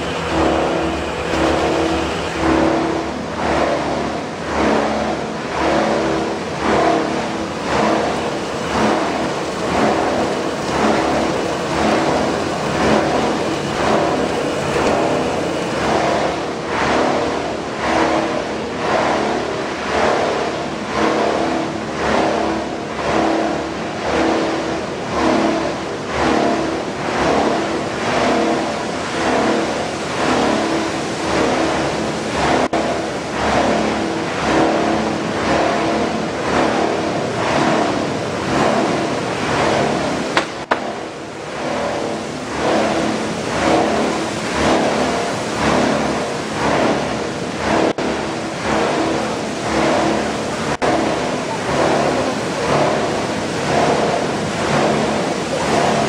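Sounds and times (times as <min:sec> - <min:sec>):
machinery mechanical din: 0:00.0 - 0:56.0.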